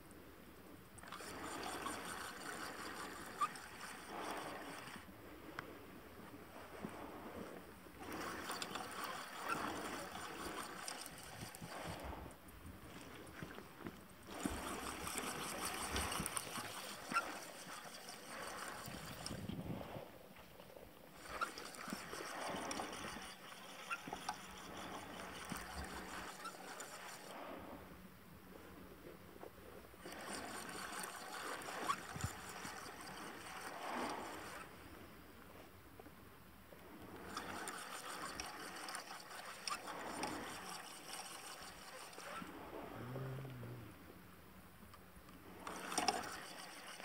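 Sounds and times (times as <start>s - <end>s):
water splashing and gurgling: 1.0s - 5.8s, 6.5s - 27.8s, 30.0s - 34.8s, 37.0s - 43.9s, 45.4s - 47.0s.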